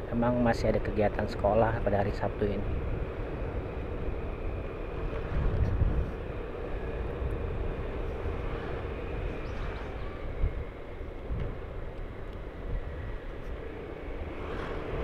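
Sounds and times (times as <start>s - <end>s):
low road rumble: 0.0s - 15.0s
vehicle engine humming: 0.8s - 15.0s.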